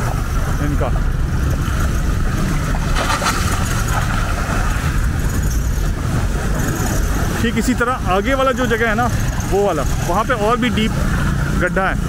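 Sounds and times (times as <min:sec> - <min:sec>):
car engines at low revs: 0:00.0 - 0:12.0
steady low rumble: 0:00.0 - 0:12.0
water churning around tyres: 0:00.0 - 0:12.0.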